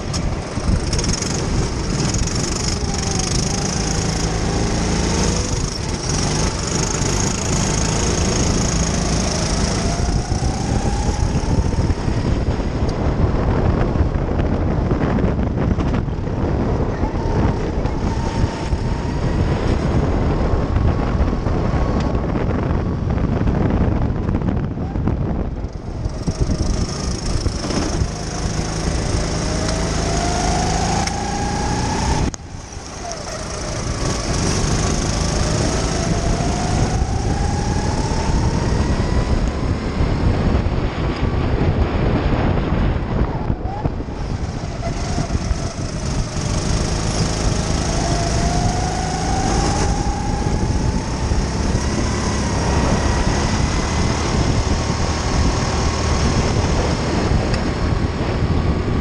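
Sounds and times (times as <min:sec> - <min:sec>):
kart engine accelerating: 0:00.0 - 0:59.0.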